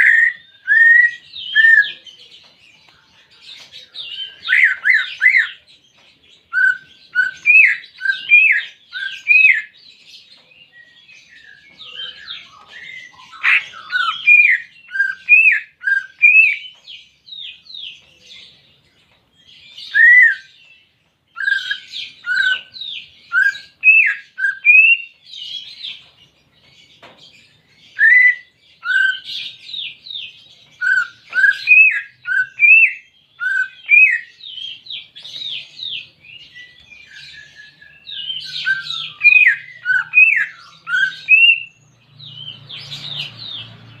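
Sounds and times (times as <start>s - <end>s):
bird singing whistled notes: 0.0s - 2.2s, 3.8s - 5.7s, 6.4s - 18.6s, 19.4s - 26.0s, 27.6s - 44.0s.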